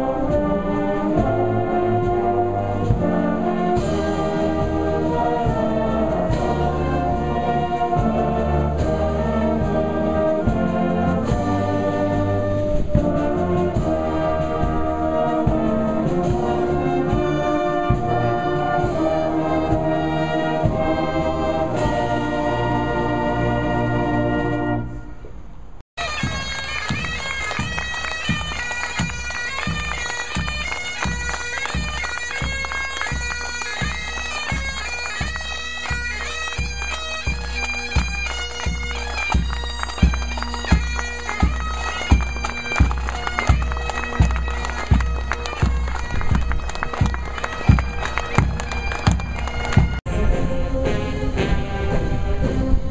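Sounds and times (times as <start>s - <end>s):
bagpipes playing: 0.0s - 25.0s, 26.0s - 52.7s
brass band playing: 0.0s - 25.4s, 26.0s - 52.9s
drum beating: 0.3s - 22.3s, 26.0s - 52.8s.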